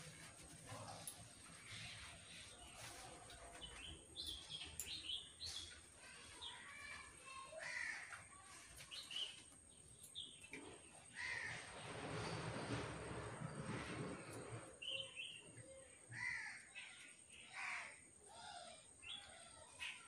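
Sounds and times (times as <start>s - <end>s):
birds chirping: 0.0s - 12.6s, 13.2s - 20.0s
faint background noise: 0.0s - 20.0s.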